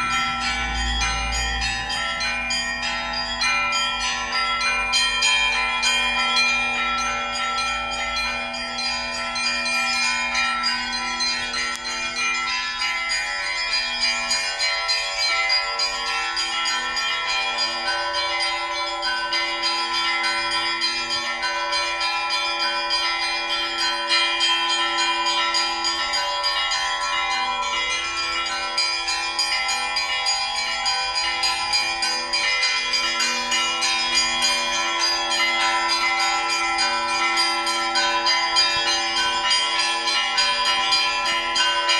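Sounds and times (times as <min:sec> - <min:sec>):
deeper bells ringing: 0:00.0 - 0:41.9.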